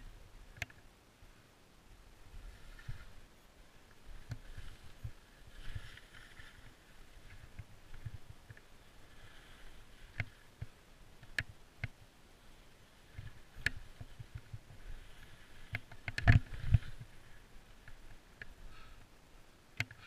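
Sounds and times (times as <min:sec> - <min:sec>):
faint hiss of skis on snow: 0:01.2 - 0:20.0
skis and poles clicking on snow: 0:02.3 - 0:03.2, 0:03.8 - 0:19.0.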